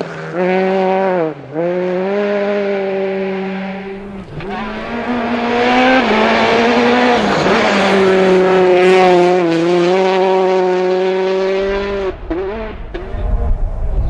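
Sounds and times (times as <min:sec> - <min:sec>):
rally car engine revving high: 0:00.0 - 0:14.0.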